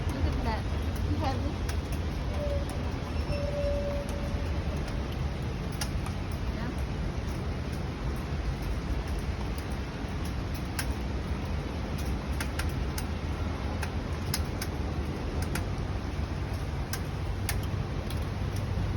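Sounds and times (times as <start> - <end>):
heavy rain: 0.0 - 18.9
strong wind: 0.0 - 18.9.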